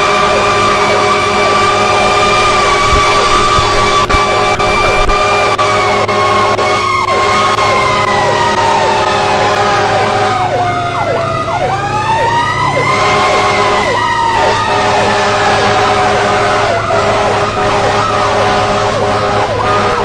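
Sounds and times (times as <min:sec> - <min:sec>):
low engine hum: 0:00.0 - 0:20.0
siren quick falling sweep: 0:00.0 - 0:20.0
siren slow wail: 0:00.0 - 0:20.0.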